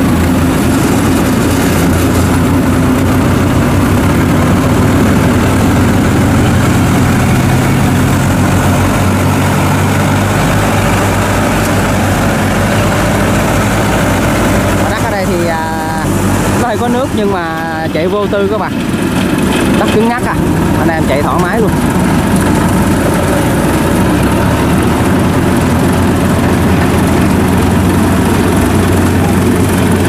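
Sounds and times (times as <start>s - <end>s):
harvester engine running: 0.0s - 30.0s.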